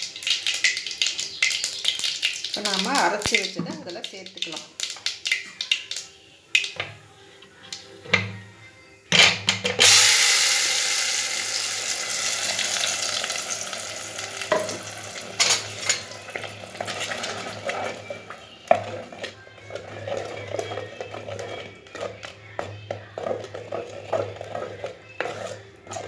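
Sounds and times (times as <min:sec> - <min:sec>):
paste sizzling in hot oil: 0:00.0 - 0:06.1, 0:09.8 - 0:26.0.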